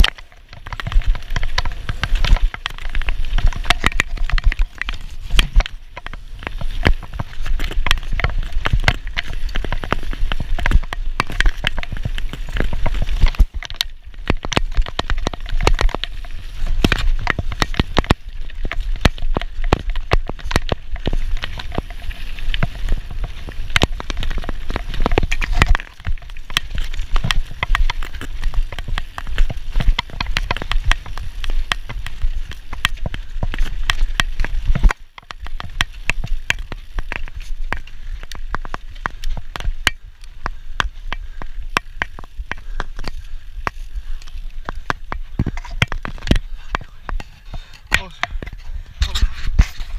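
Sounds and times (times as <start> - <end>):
bike rattling over bumps: 0.0 - 49.9
bike tyres crunching on dirt: 0.0 - 49.9
wind rumbling on microphone: 0.0 - 49.9.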